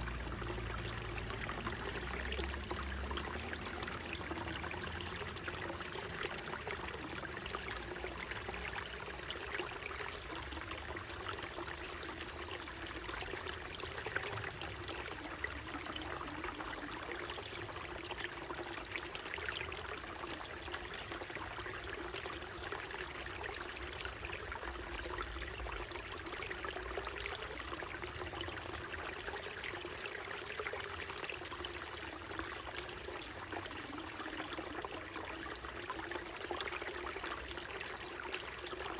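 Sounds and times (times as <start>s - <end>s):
stream water rushing and trickling: 0.0s - 38.9s.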